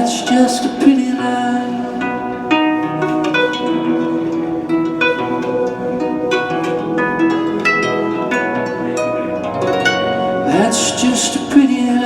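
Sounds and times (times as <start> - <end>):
harp plucked notes: 0.0 - 12.0.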